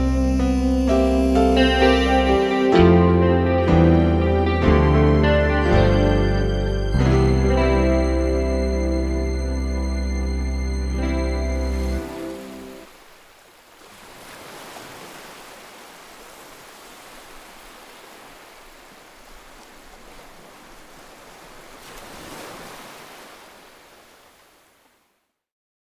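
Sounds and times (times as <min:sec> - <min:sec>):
waves breaking: 0:00.0 - 0:25.2.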